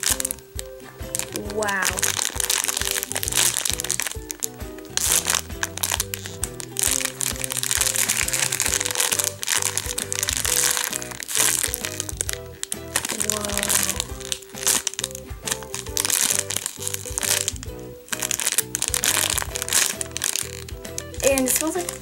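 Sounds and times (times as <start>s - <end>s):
background music: 0.0s - 22.0s
plastic bag crinkling: 0.0s - 22.0s.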